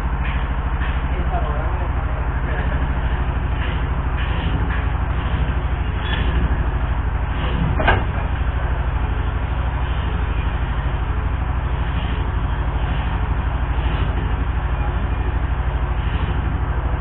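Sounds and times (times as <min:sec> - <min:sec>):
engine running with rapid pulse: 0:00.0 - 0:17.0.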